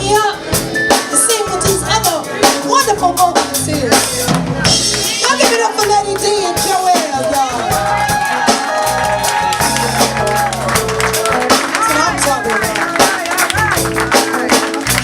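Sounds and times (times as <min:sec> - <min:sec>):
bending melody line: 0:00.0 - 0:15.0
live band music: 0:00.0 - 0:15.0.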